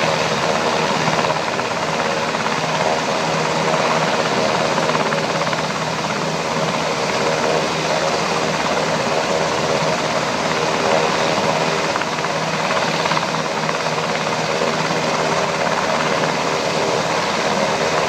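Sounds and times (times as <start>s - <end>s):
helicopter engine whine: 0.0s - 18.0s
helicopter rotor noise: 0.0s - 18.0s.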